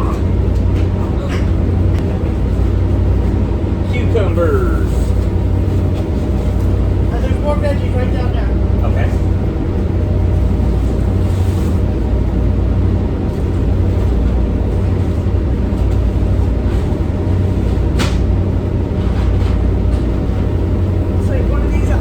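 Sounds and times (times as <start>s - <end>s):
boat diesel engines rumbling: 0.0s - 22.0s.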